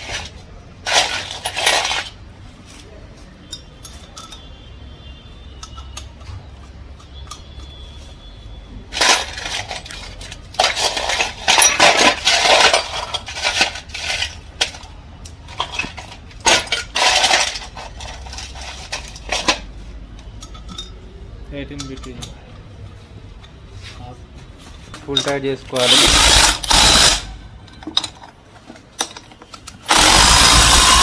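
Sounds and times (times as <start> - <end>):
metal tools clinking and rattling: 0.0 - 2.2, 3.4 - 4.7, 5.6 - 8.0, 8.9 - 22.7, 24.8 - 31.0.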